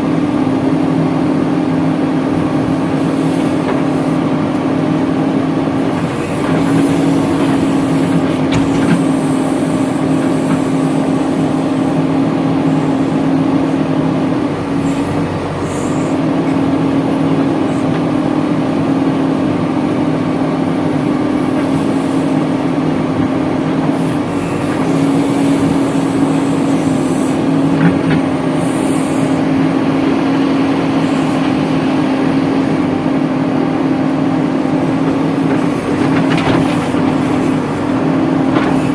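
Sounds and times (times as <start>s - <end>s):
diesel engine running at high revs: 0.0s - 38.9s.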